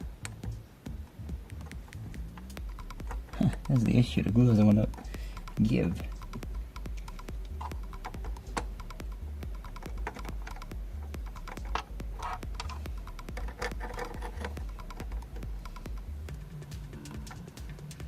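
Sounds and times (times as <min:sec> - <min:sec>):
background music with pulsing bass: 0:00.0 - 0:18.0.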